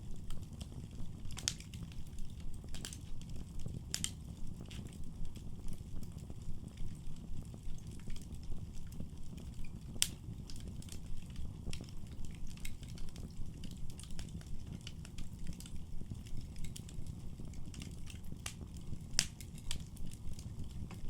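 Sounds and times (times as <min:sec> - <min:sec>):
fireplace fire crackling and popping: 0:00.0 - 0:21.0
low rumble of burning: 0:00.0 - 0:21.0.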